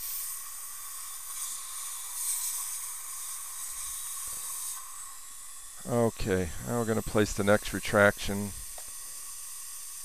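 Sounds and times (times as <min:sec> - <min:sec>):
dental air syringe hissing: 0:00.0 - 0:10.0.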